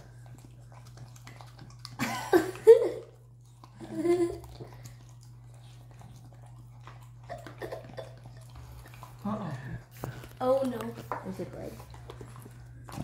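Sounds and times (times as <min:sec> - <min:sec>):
dog licking spoon: 0:00.0 - 0:13.0.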